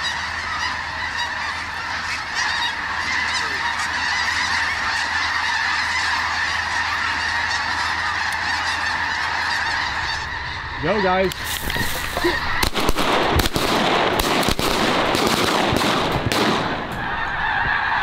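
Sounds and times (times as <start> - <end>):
flock of geese honking: 0.0 - 18.0.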